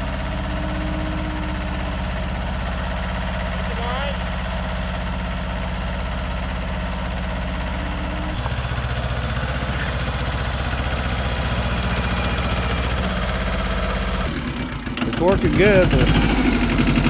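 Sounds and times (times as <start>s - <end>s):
tractor engine running tiller: 0.0s - 17.0s.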